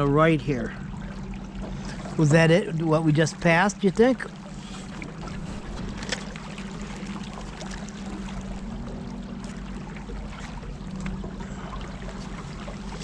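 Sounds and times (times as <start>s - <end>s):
outboard engine humming: 0.0s - 13.0s
water rushing along hull: 0.0s - 13.0s.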